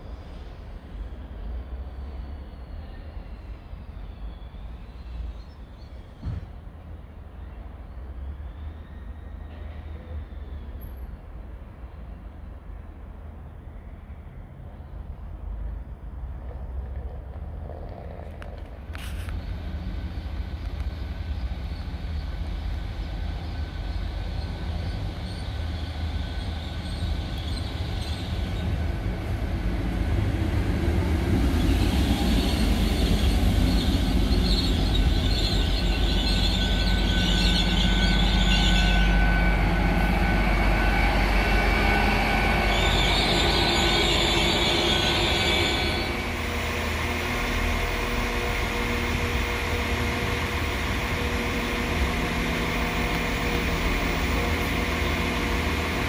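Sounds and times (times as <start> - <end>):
high train squeal: 0.0 - 56.0
train rumbling: 0.0 - 56.0.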